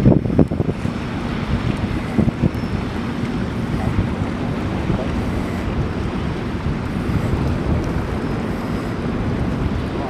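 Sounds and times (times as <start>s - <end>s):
bow wash: 0.0s - 10.0s
motor boat engines rumbling: 0.0s - 10.0s
wind buffeting microphone: 0.0s - 10.0s.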